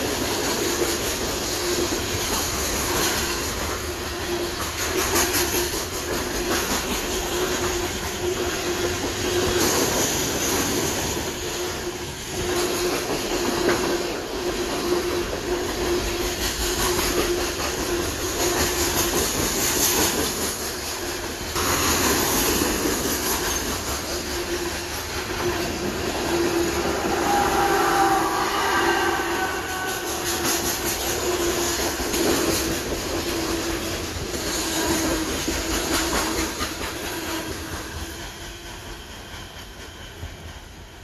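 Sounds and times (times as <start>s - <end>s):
train clattering on rails: 0.0s - 41.0s
train wheel squeal: 0.0s - 41.0s.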